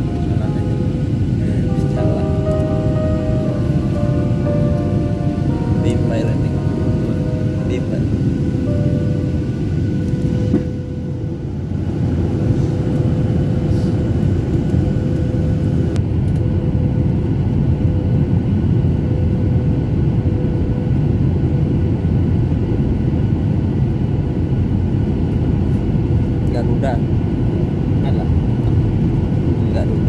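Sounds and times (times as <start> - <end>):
airliner cabin airflow and engines: 0.0 - 30.0
constant hum: 0.0 - 30.0.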